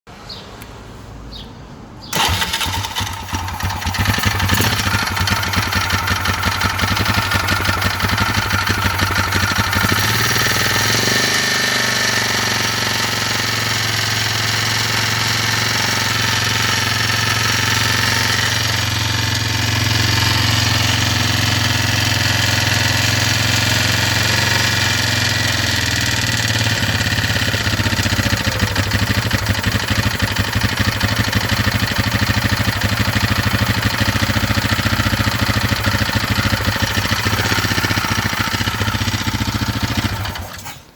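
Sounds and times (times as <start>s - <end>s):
atv engine starting and idling: 2.1s - 40.9s.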